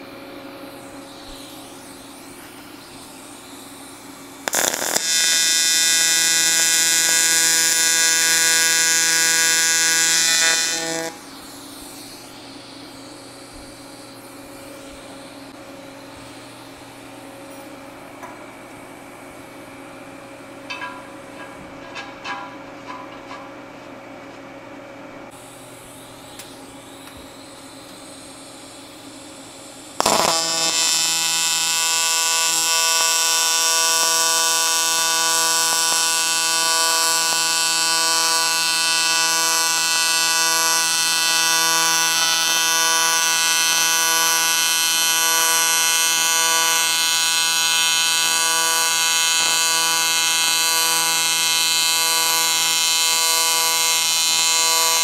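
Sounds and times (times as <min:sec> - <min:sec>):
welding arc buzzing: 0:00.7 - 0:17.3, 0:25.4 - 0:55.0.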